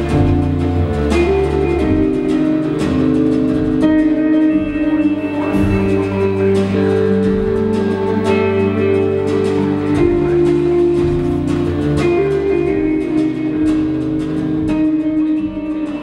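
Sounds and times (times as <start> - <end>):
instrumental guitar music: 0.0 - 16.0.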